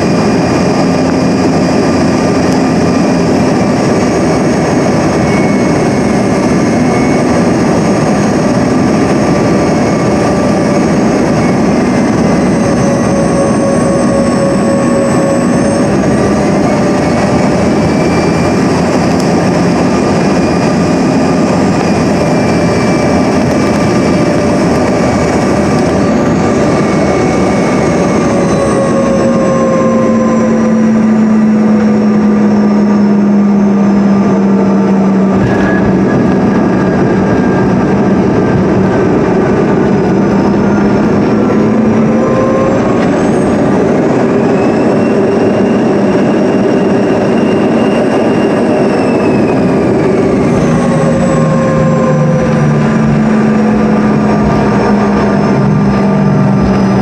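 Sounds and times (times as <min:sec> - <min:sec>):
airflow rushing past cabin: 0:00.0 - 0:57.0
jet engines: 0:00.0 - 0:57.0
low hum: 0:00.0 - 0:57.0
steady whining tones: 0:00.0 - 0:57.0.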